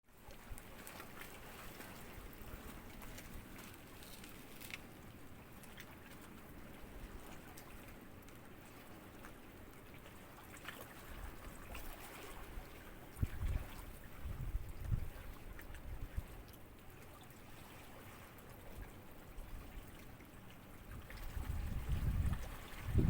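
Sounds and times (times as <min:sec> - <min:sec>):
small waves lapping at shore: 0:00.1 - 0:23.0
water splashes: 0:00.2 - 0:23.0.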